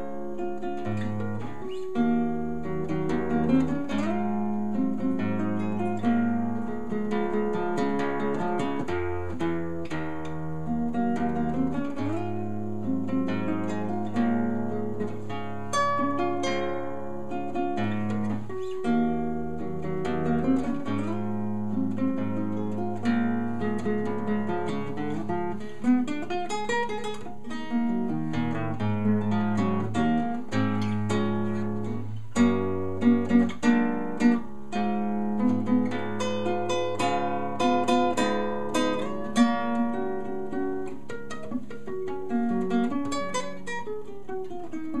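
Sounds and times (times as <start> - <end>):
fingerstyle acoustic guitar: 0.0 - 45.0.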